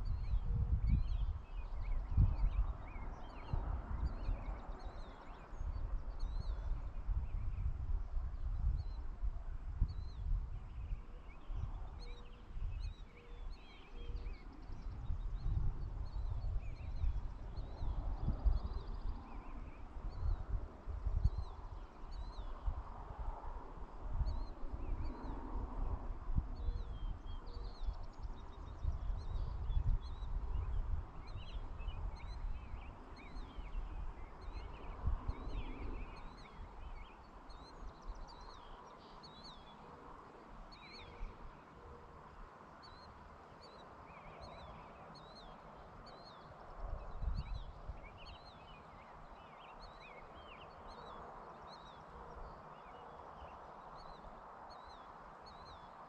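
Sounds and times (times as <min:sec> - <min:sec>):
small birds chirping: 0:00.0 - 0:09.2, 0:09.8 - 0:23.0, 0:26.5 - 0:56.0
wind rumble on microphone: 0:00.0 - 0:56.0.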